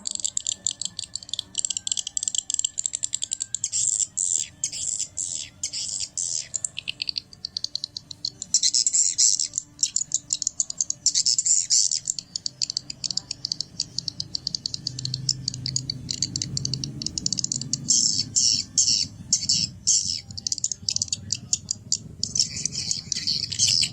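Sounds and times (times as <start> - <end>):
recorded high chirping bird trills: 0.0 - 23.9.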